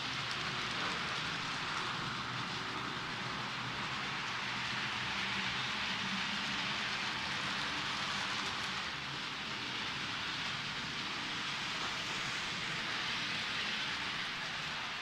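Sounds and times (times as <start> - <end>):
model train wheels rolling on rails: 0.0 - 15.0.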